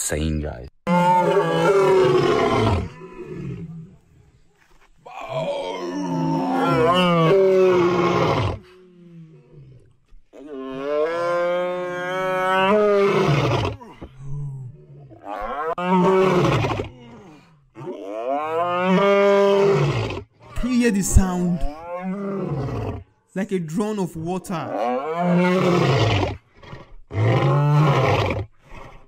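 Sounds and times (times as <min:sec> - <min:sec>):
lion roaring: 0:00.8 - 0:04.0, 0:05.1 - 0:20.2, 0:21.2 - 0:23.0, 0:24.7 - 0:28.9.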